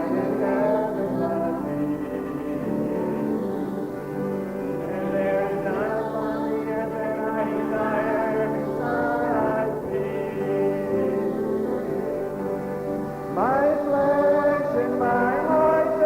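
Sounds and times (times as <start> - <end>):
group singing a psalm: 0.0 - 16.0.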